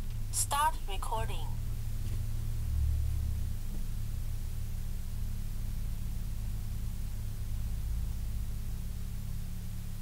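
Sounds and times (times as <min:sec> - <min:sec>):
car cabin hum and rumble: 0:00.0 - 0:10.0.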